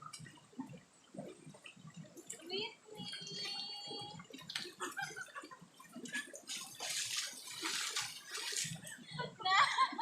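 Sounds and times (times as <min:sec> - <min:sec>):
water splashing and pouring: 0:00.0 - 0:09.2.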